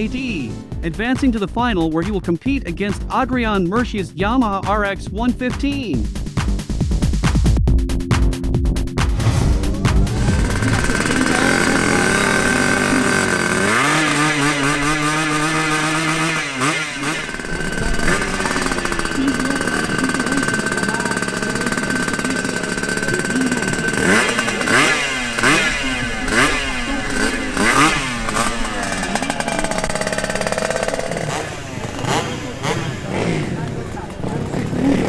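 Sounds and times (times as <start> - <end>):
motorcycle engines revving: 0.0 - 7.4, 9.0 - 35.0.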